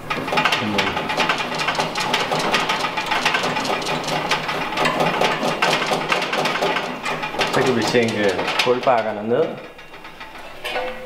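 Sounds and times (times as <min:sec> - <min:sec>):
grill handle rattling clicks: 0:00.0 - 0:11.0.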